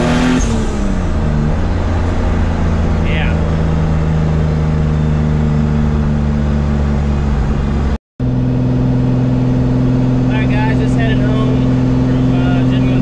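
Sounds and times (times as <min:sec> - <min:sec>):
car engine cruising: 0:00.0 - 0:13.0.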